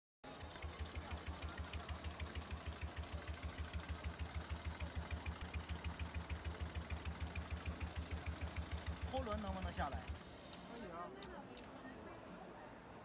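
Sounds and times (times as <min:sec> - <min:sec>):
sewing machine stitching: 0:00.2 - 0:10.9.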